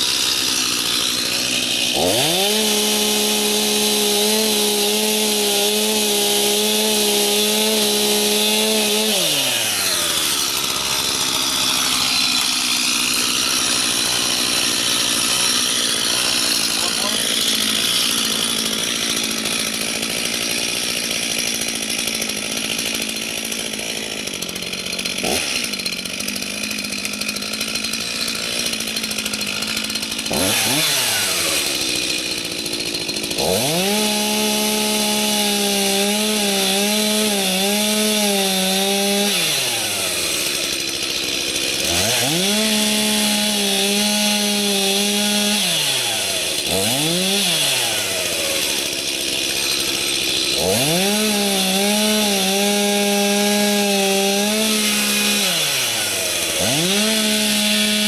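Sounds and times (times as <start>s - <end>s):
chainsaw cutting tree: 0.0s - 58.0s
chainsaw idling and revving: 0.0s - 58.0s.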